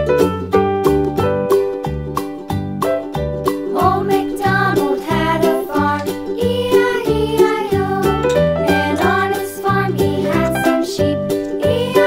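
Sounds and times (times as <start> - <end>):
bright children's tune: 0.0 - 12.0.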